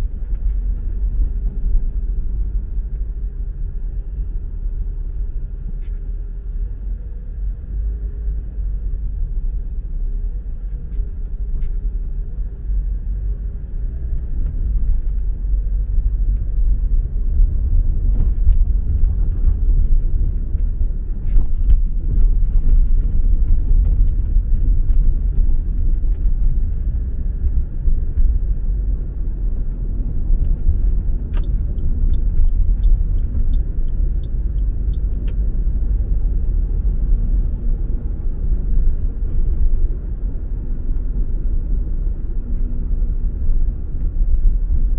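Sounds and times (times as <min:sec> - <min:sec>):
car driving on the road: 0:00.0 - 0:44.9.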